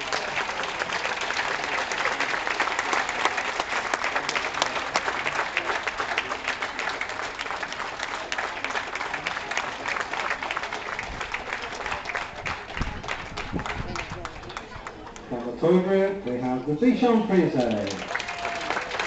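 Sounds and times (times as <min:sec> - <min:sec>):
audience applauding: 0:00.0 - 0:15.3, 0:17.3 - 0:19.0.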